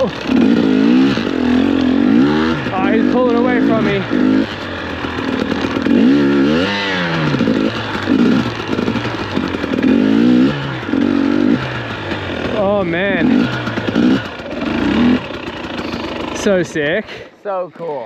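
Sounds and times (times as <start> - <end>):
dirt bike engine revving: 0.0 - 17.3.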